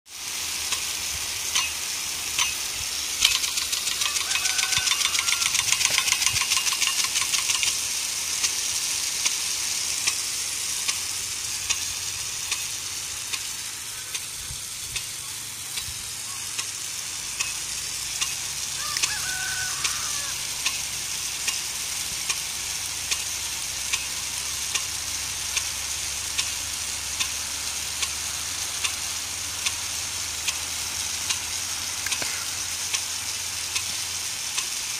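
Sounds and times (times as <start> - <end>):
sprinkler water jet hissing: 0.1 - 34.9
sprinkler arm knocking: 0.6 - 34.8.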